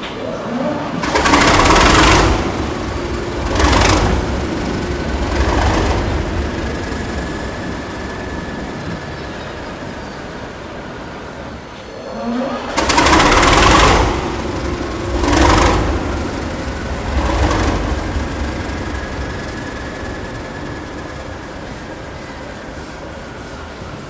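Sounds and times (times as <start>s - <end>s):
diesel rail engine running: 0.0s - 24.0s.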